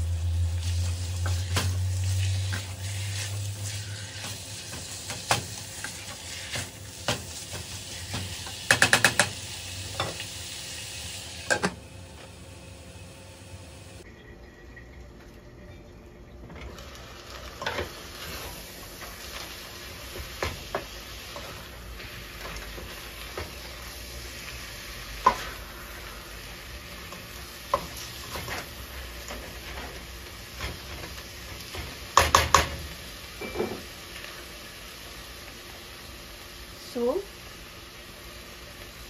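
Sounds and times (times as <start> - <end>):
meat sizzling in a pot: 0.0 - 14.1, 16.6 - 39.0.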